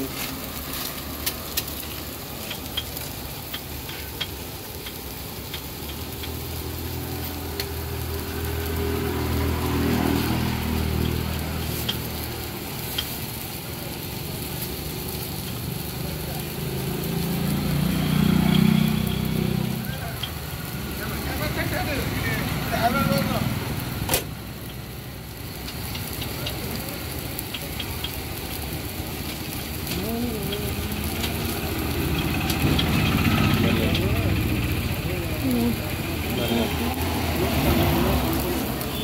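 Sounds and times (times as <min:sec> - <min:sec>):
batter sizzling on griddle: 0:00.0 - 0:39.0.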